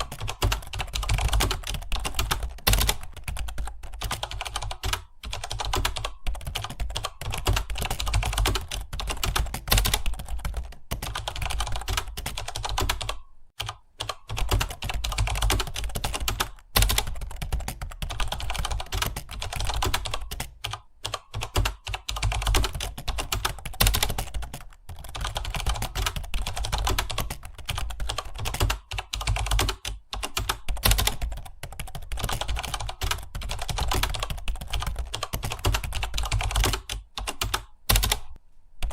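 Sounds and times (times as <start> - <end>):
rapid typing on keyboard: 0.0 - 38.9.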